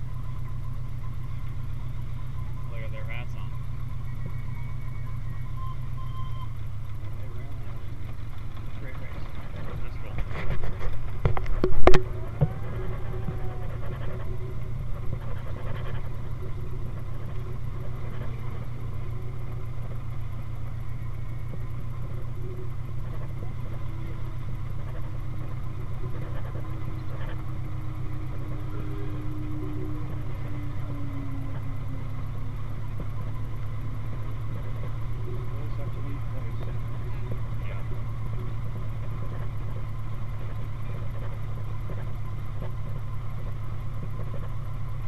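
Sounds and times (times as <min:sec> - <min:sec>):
faint whine falling in pitch: 0:00.0 - 0:08.2, 0:08.8 - 0:45.0
car engine droning: 0:00.0 - 0:45.0.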